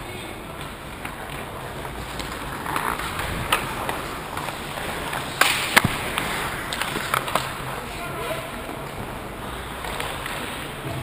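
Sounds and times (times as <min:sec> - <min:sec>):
skates scraping ice: 0:00.0 - 0:11.0
sticks and puck clacking: 0:00.0 - 0:11.0.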